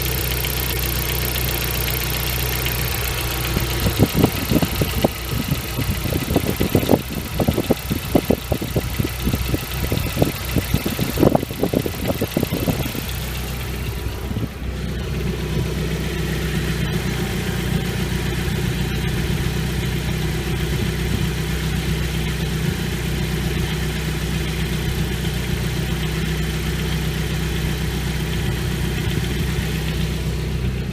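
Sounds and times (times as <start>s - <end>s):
car engine idling: 0.0s - 30.9s
engine knocking clatter: 0.0s - 30.9s.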